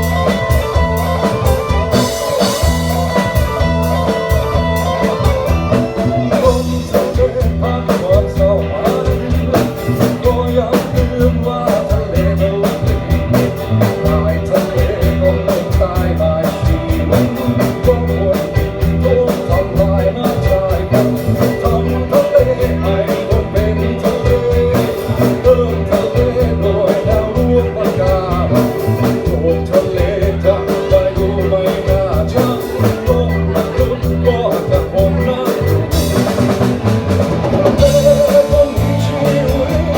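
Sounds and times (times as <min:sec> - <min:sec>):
band playing a song: 0:00.0 - 0:39.9
drum kit beat: 0:00.0 - 0:39.9.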